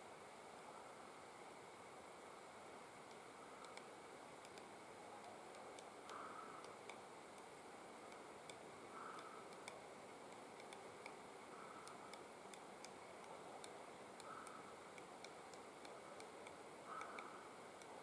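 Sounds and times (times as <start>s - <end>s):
woodpecker tapping on bark: 3.1s - 18.0s.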